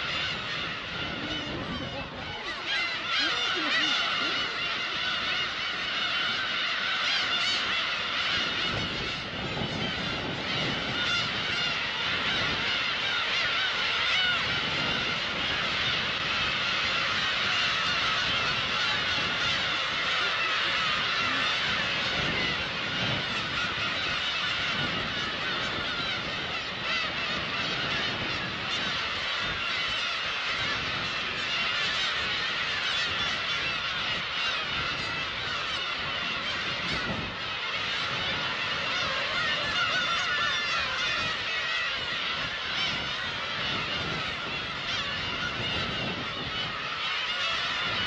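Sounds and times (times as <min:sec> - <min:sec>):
gulls mewing calls: 0:00.0 - 0:48.0.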